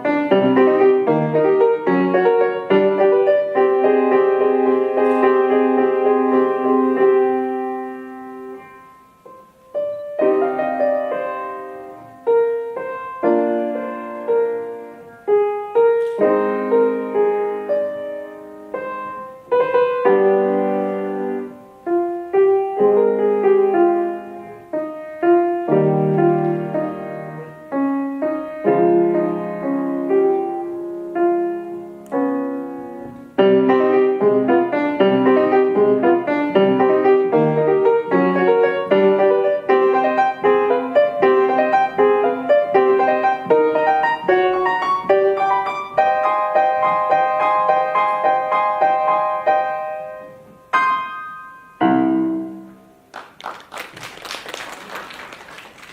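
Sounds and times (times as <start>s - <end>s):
solo piano: 0.0s - 55.9s.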